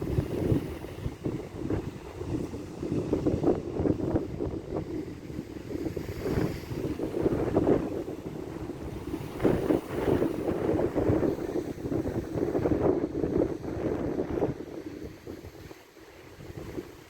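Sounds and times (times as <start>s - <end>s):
sea waves washing in: 0.0s - 17.0s
wind noise on microphone: 0.0s - 17.0s.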